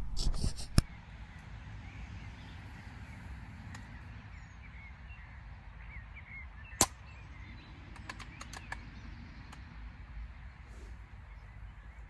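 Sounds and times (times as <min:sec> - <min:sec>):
low wind rumble: 0:00.0 - 0:12.0
small birds chirping: 0:00.8 - 0:12.0.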